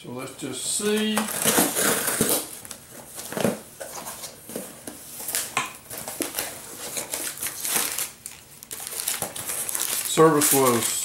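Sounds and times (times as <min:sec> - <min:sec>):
packaging rustling and crinkling: 0:00.7 - 0:11.0.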